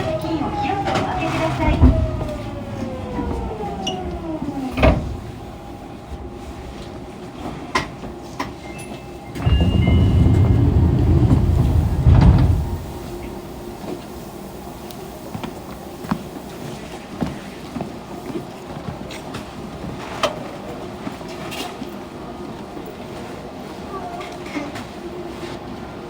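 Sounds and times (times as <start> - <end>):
train sliding doors opening: 0.0 - 23.5
train car low hum: 0.0 - 26.0.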